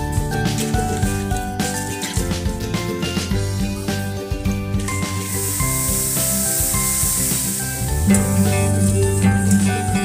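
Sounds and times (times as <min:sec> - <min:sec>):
background music with steady beat: 0:00.0 - 0:10.0
milk hissing and foaming: 0:00.0 - 0:10.0.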